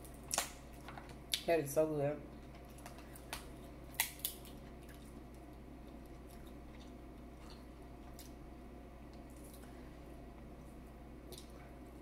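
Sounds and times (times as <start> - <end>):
steady low hum: 0.0 - 12.0
person chewing food: 2.4 - 12.0.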